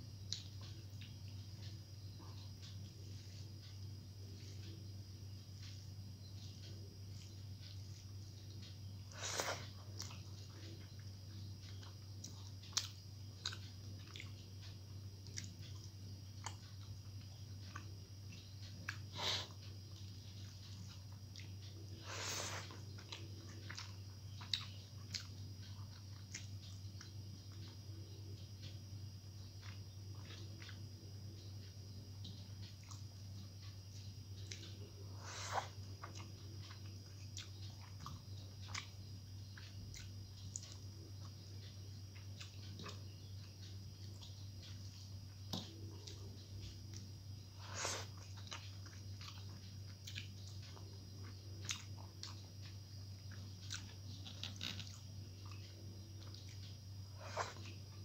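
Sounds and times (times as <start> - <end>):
person chewing food: 0.2 - 58.0.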